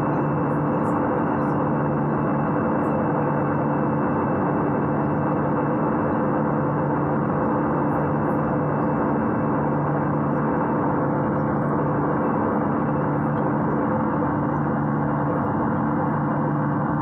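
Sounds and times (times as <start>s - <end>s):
jet engine and airflow noise: 0.0s - 17.0s
steady low hum: 0.0s - 17.0s.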